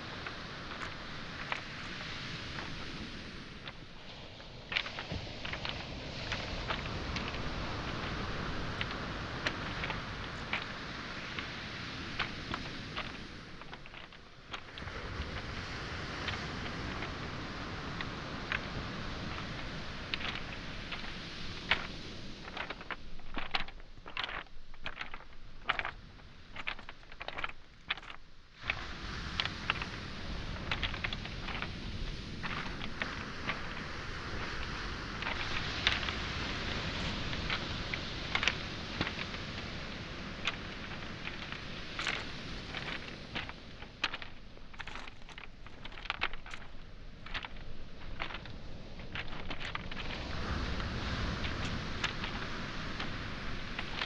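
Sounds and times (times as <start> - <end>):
footsteps on pebbles: 0.0 - 54.0
waves on shoreline: 0.0 - 54.0.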